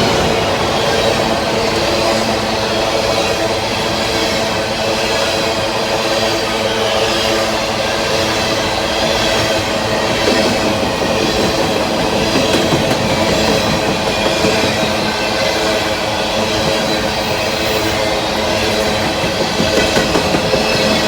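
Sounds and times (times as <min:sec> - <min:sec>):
diesel locomotive engines droning: 0:00.0 - 0:21.0.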